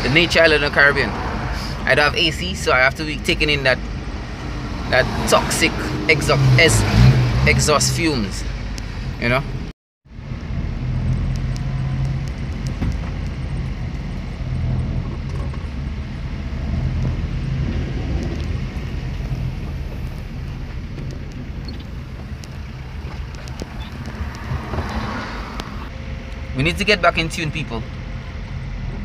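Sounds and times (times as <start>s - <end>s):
car engine humming: 0.0s - 29.0s
road noise rushing: 0.0s - 29.0s.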